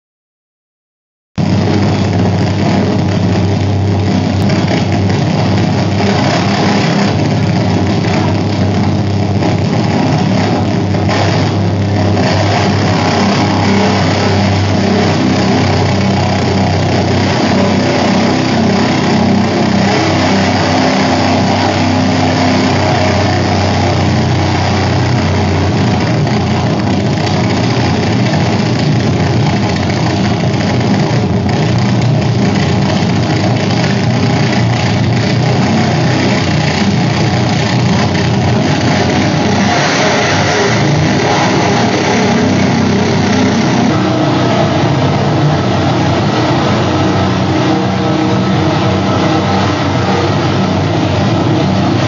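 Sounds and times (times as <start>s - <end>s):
harsh electric drone: 1.4s - 52.0s
low hum: 1.4s - 52.0s.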